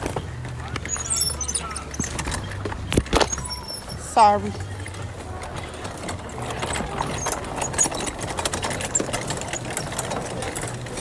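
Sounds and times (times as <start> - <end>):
go-kart engine running: 0.0 - 11.0
kart clicks and rattles: 0.0 - 11.0.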